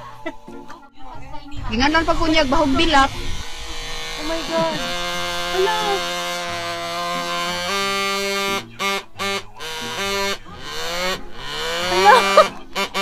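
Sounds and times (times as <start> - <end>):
vibrator buzzing and pulsing: 1.5 - 13.0.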